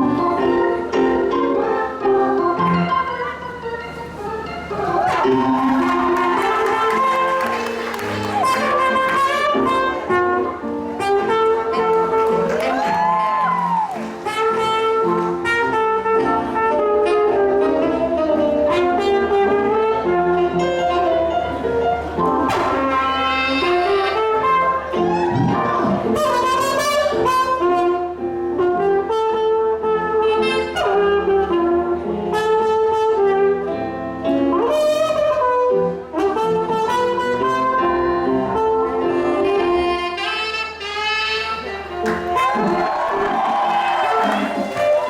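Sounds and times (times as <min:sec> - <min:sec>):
held accompanying chords: 0:00.0 - 0:45.0
wind instrument hymn melody: 0:00.0 - 0:45.0.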